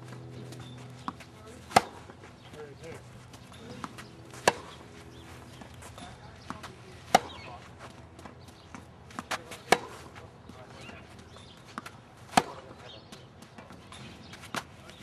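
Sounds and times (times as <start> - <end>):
racket hitting tennis ball: 0.0 - 14.9
ball bouncing on court: 0.1 - 2.0, 2.8 - 4.9, 5.5 - 9.9, 10.5 - 14.7.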